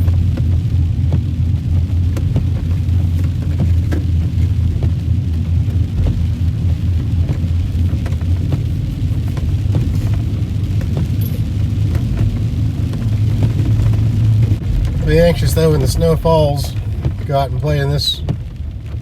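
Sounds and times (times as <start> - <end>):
car engine drone in cabin: 0.0 - 19.0
tyre road noise: 0.0 - 19.0.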